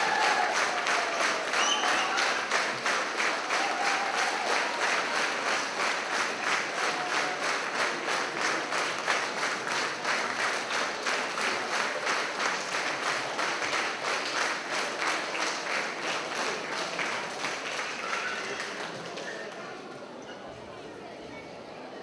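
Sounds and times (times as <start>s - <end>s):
audience clapping in rhythm: 0.0s - 19.4s.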